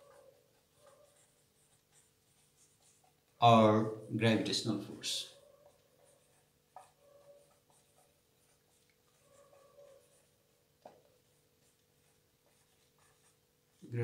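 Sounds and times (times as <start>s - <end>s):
marker squeaking on whiteboard: 0.0s - 13.9s.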